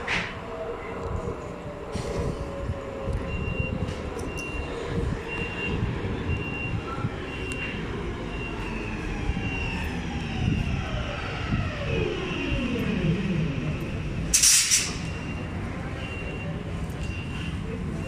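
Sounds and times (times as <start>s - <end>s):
metro train rumbling: 0.0s - 18.0s.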